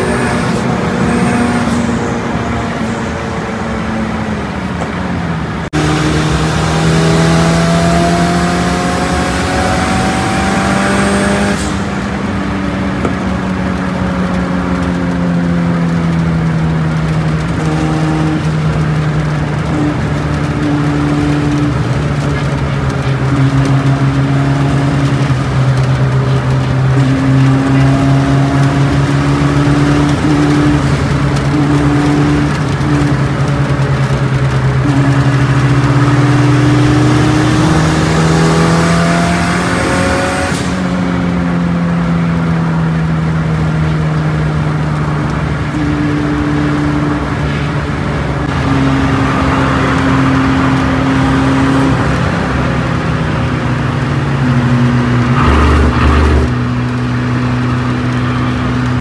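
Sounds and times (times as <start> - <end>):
car engine heard from cabin: 0.0 - 59.0.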